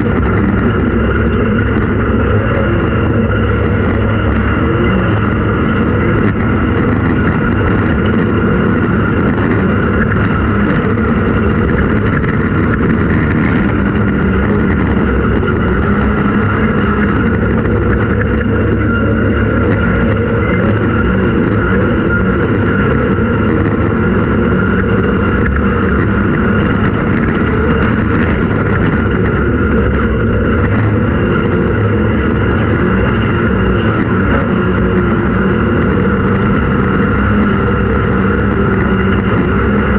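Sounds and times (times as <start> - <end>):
race engine running hard: 0.0 - 39.9.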